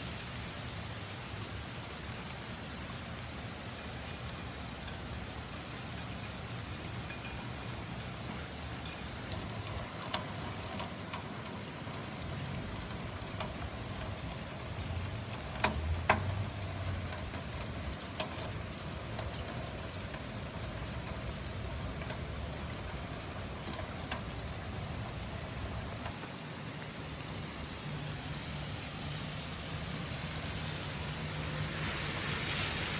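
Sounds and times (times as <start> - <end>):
steady rain hissing: 0.0 - 32.9.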